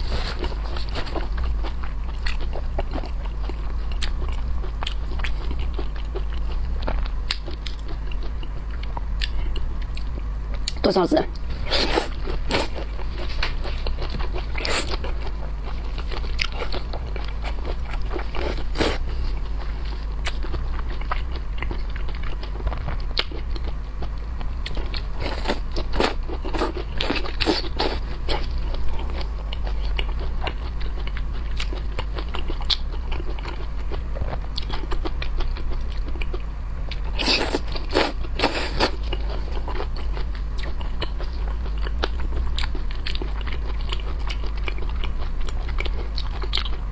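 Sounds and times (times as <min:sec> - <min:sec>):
crunchy chewing of shrimp: 0:00.0 - 0:46.9
steady low hum: 0:00.0 - 0:46.9.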